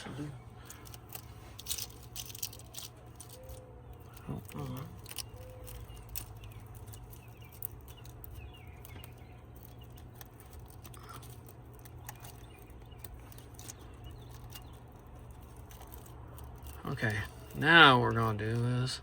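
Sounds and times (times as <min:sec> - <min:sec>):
hands handling plastic wires: 0:00.0 - 0:18.8
steady low hum: 0:00.0 - 0:19.0
faint bird chirps: 0:03.2 - 0:18.9.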